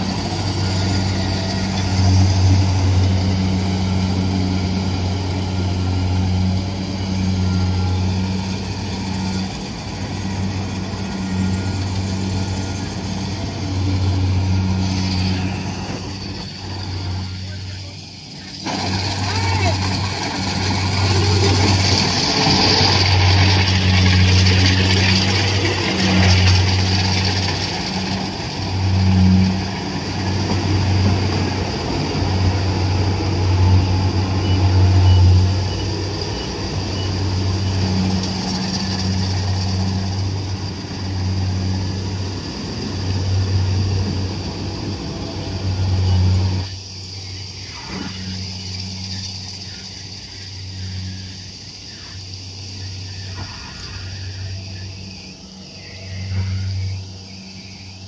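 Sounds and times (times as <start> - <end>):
low diesel engine drone: 0.0 - 58.0
threshing machinery rushing: 0.0 - 58.0.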